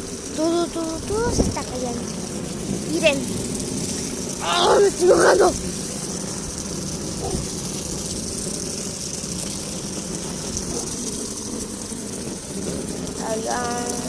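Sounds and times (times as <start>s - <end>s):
heavy rain: 0.0s - 14.0s
wind buffeting microphone: 0.1s - 14.0s.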